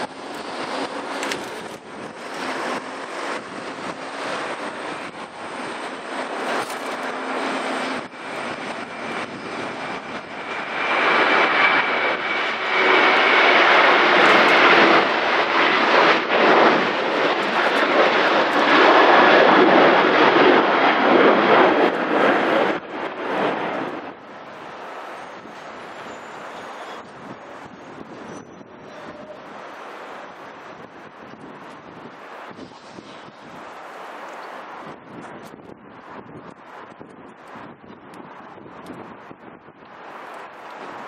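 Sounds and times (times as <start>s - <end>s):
jet engines at takeoff: 0.0s - 41.0s.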